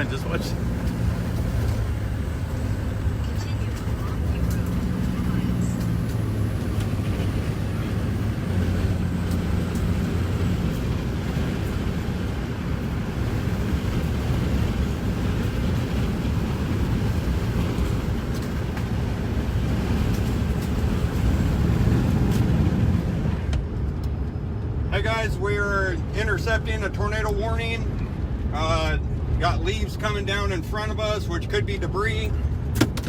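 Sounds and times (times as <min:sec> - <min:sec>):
car engine drone: 0:00.0 - 0:33.0
road and wind noise: 0:00.0 - 0:33.0.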